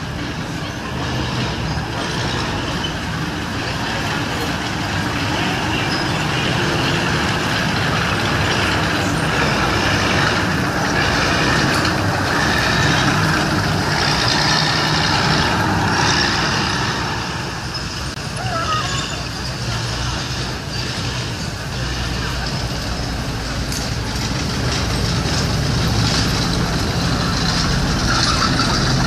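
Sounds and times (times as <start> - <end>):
tracked tank engine driving past: 0.0 - 29.0.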